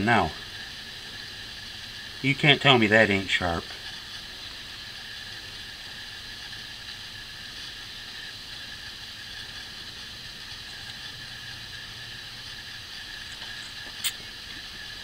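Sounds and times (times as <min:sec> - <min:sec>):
faint high hum: 0:00.0 - 0:15.0
outdoor background hiss: 0:00.0 - 0:15.0.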